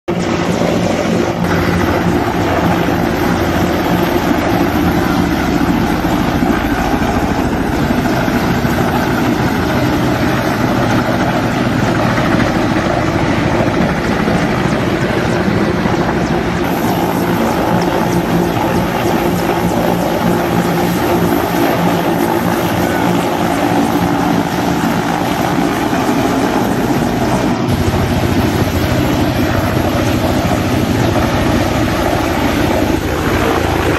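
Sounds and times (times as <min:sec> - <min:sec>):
engine drone: 0:00.1 - 0:33.9.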